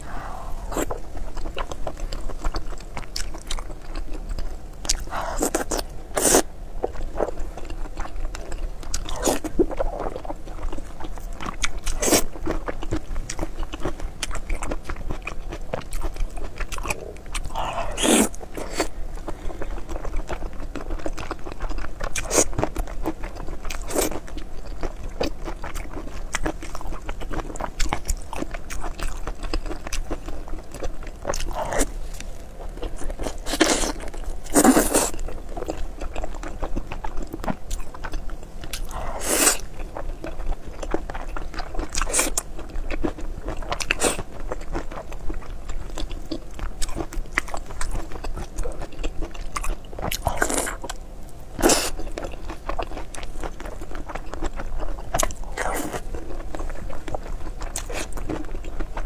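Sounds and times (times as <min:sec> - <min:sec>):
biting and chewing: 0:00.6 - 0:59.0.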